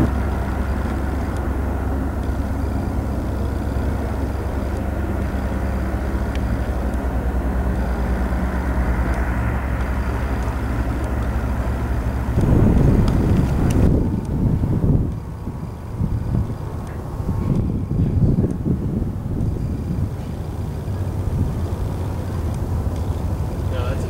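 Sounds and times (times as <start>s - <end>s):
low engine drone: 0.0s - 24.0s
noisy rumble: 0.0s - 24.0s.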